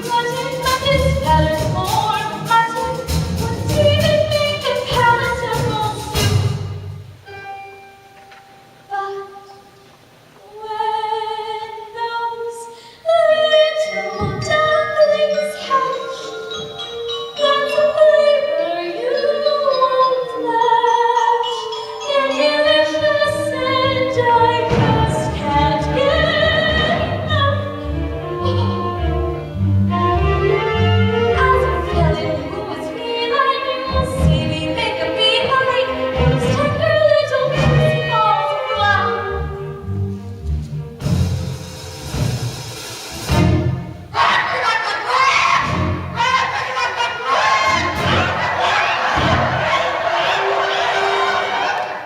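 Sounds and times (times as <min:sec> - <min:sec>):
musical accompaniment: 0:00.0 - 0:52.0.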